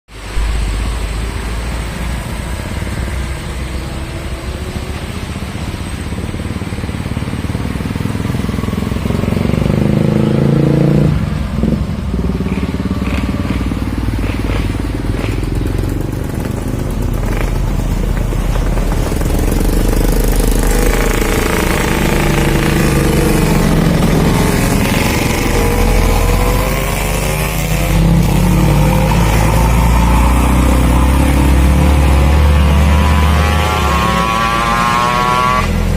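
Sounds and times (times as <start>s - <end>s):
motorcycle engine changing speed: 5.4s - 35.9s.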